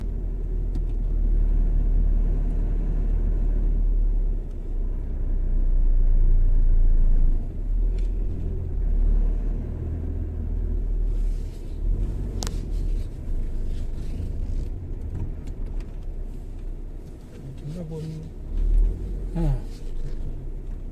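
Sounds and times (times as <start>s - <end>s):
car road and engine rumble: 0.0s - 20.9s.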